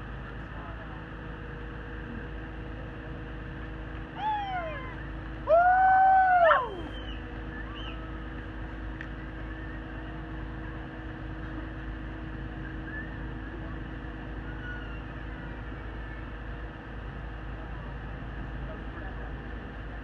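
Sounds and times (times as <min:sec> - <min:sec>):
crane engine rumbling: 0:00.0 - 0:20.0.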